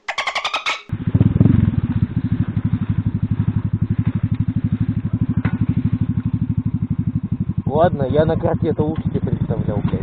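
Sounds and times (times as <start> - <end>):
moped engine idling: 0.9 - 10.0.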